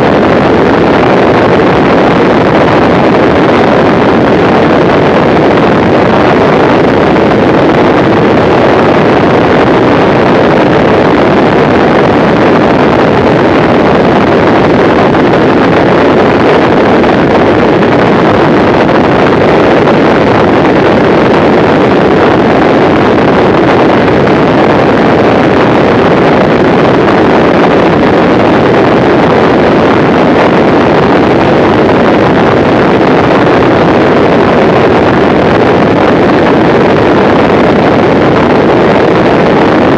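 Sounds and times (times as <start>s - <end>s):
aircraft engine drone: 0.0s - 39.9s
wind rushing over microphone: 0.0s - 39.9s.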